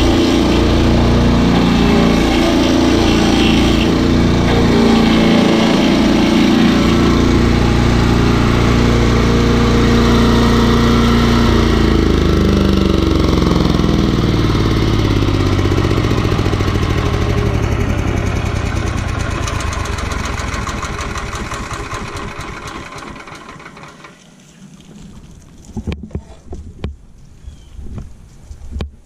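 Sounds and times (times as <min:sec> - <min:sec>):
gas engine winding down: 0:00.0 - 0:24.3.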